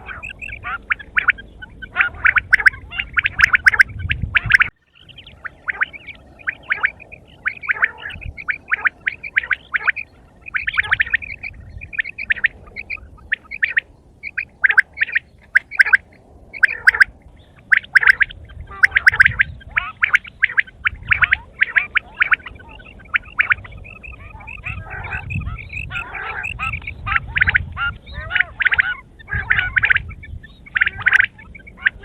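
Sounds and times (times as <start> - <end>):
quail chirping calls: 0.0 - 32.0.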